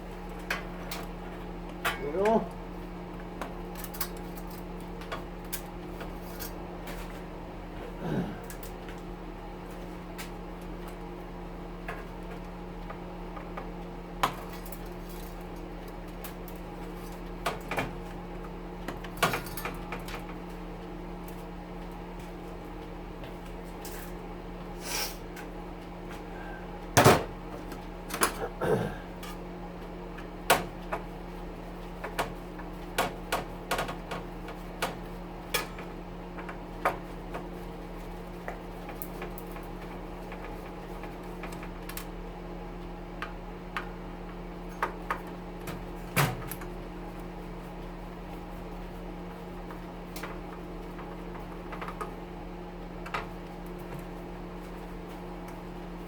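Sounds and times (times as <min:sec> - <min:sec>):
stove fan hum: 0:00.0 - 0:56.0.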